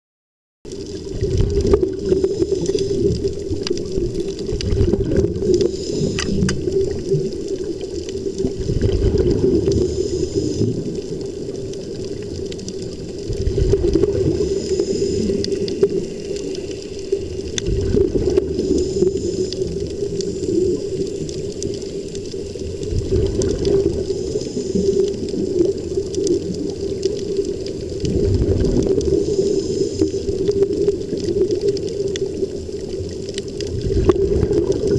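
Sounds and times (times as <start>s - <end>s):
air rushing with bubbling: 0.7s - 34.9s
low gurgling bubble surges: 0.7s - 34.9s.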